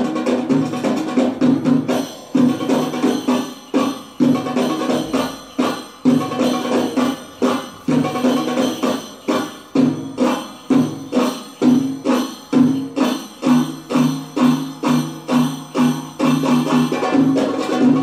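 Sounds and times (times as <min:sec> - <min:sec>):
goblet drum rhythm: 0:00.0 - 0:18.0
jingling: 0:01.8 - 0:18.0.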